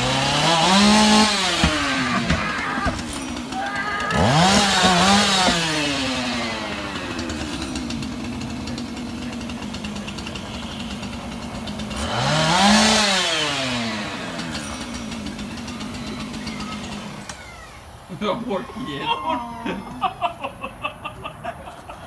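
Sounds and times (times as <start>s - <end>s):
chainsaw engine idling and revving: 0.0s - 22.0s.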